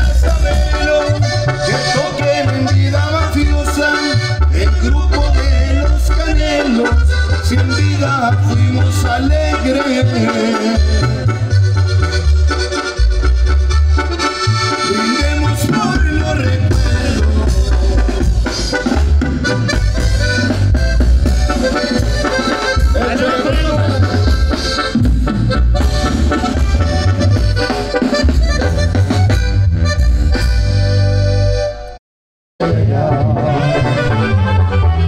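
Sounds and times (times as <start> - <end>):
bass drum beat: 0.0 - 31.5
brass band dance music: 0.0 - 32.0, 32.6 - 35.0.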